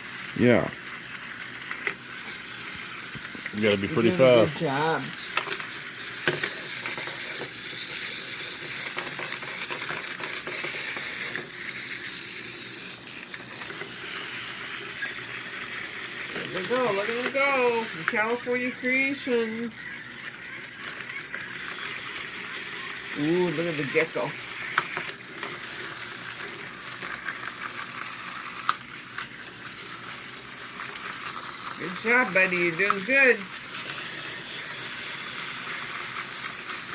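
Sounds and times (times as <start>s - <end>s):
wind-up toys whirring: 0.0s - 36.9s
tiny clicks and clatters: 0.1s - 36.9s.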